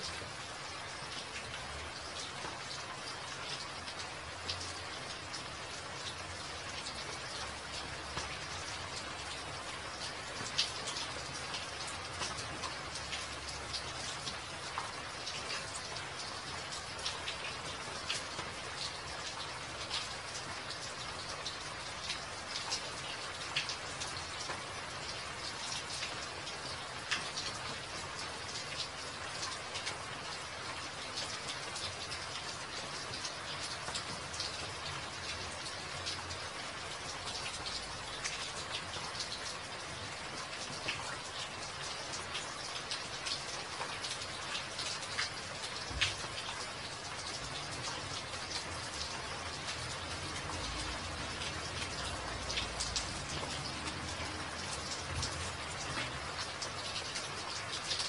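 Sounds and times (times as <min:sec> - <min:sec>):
raindrops ticking: 0:00.0 - 0:58.0
steady rain falling: 0:00.0 - 0:58.0.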